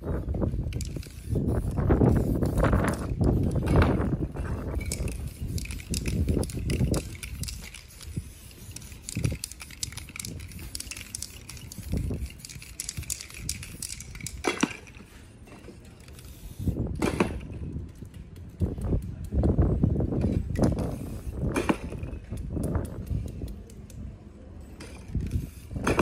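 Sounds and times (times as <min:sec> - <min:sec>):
spray-paint cans hissing: 0:00.0 - 0:26.0.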